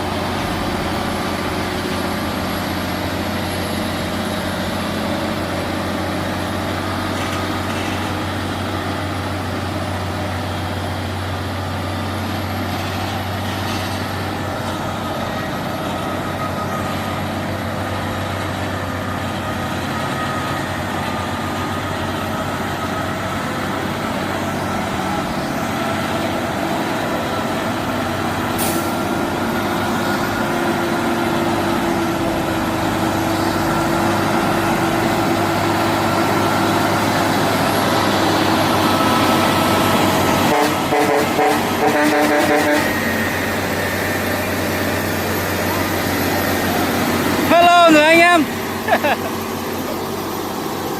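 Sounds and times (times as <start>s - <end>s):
heavy truck engine running: 0.0s - 50.9s.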